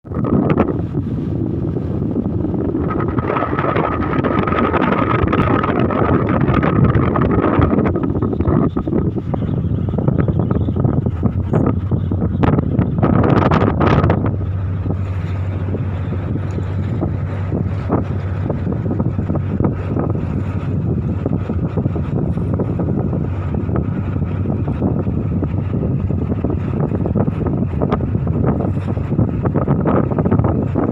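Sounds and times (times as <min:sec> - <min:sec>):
gusting wind buffeting microphone: 0:00.0 - 0:30.9.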